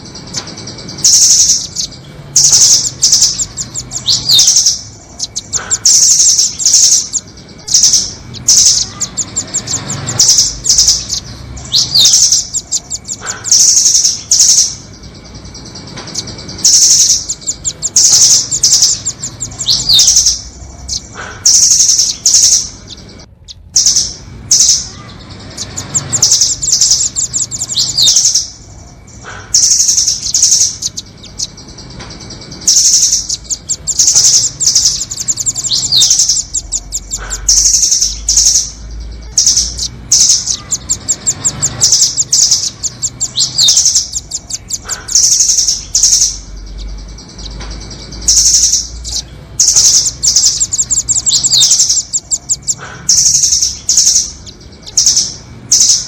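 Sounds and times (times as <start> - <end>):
nuthatches chirping trills: 0.0 - 56.0.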